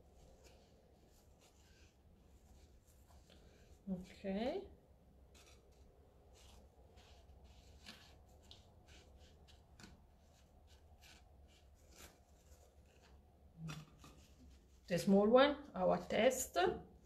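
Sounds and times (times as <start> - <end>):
pastry rustling in sugar: 0.0 - 16.1.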